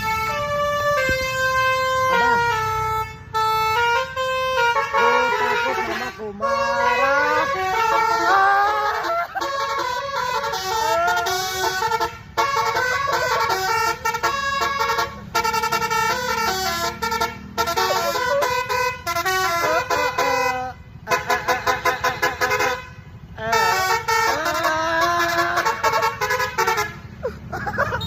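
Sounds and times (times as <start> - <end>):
musical horns playing a melody: 0.0 - 27.1.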